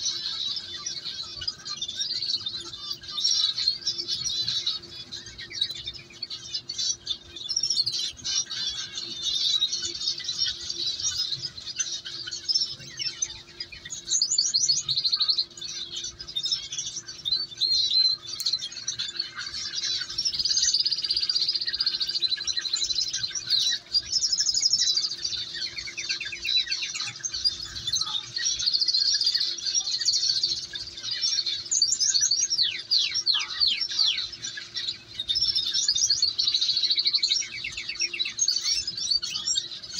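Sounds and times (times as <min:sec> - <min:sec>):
nestlings cheeping and trilling: 0:00.0 - 0:39.9.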